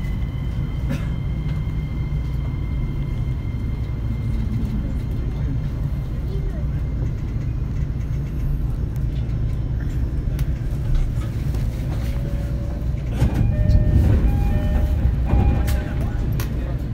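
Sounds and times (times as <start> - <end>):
electric train rumbling on track: 0.0 - 16.9.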